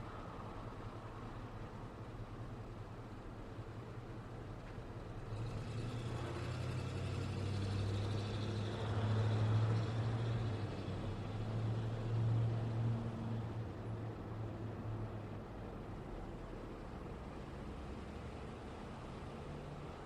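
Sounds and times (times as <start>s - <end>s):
passing vehicle engine and tyres: 0.0s - 20.0s.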